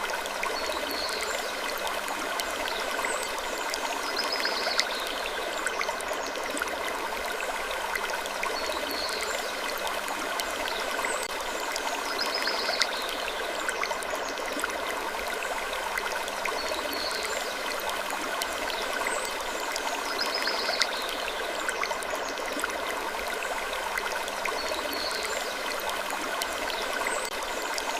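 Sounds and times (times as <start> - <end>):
rushing trickling water: 0.0 - 27.9.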